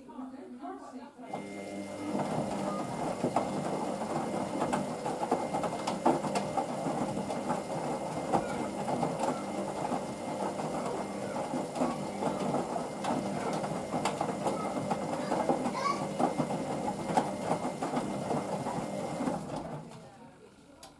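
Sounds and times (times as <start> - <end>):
washing machine motor hum: 1.3 - 20.9.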